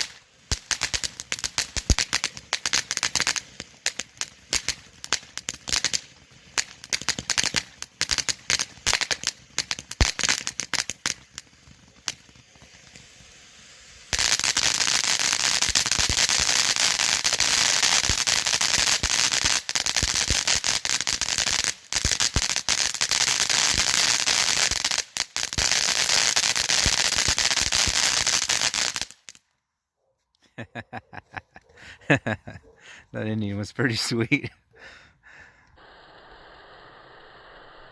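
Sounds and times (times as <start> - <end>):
firework fountain crackling: 0.0 - 29.4, 32.0 - 37.9.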